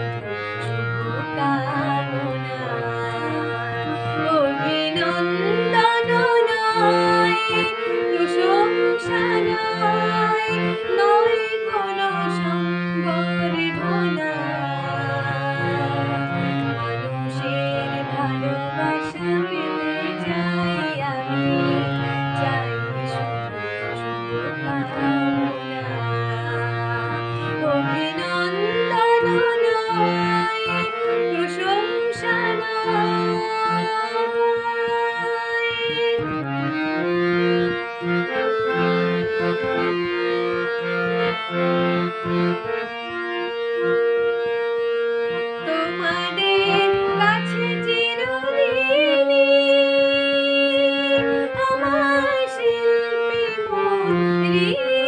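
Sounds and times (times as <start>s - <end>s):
harmonium playing: 0.0s - 55.0s
woman singing: 0.5s - 36.4s, 45.6s - 55.0s.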